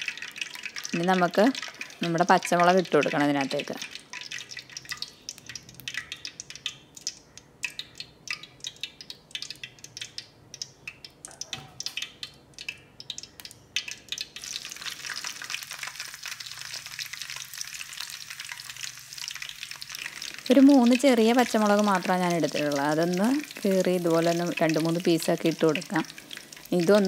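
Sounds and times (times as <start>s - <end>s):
chillies sizzling in oil: 0.0s - 27.0s
hot oil crackling and popping: 0.0s - 27.0s.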